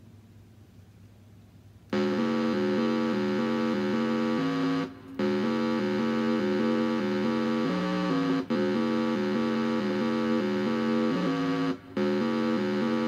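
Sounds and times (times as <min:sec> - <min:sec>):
rapid repeating electronic notes: 0:02.0 - 0:13.0.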